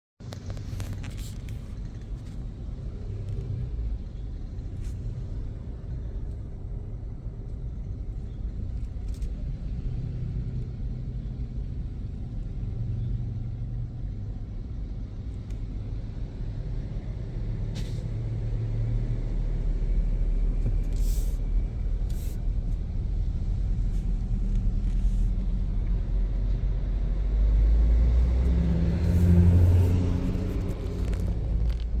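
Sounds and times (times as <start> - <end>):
truck engines rumbling: 0.2 - 32.0.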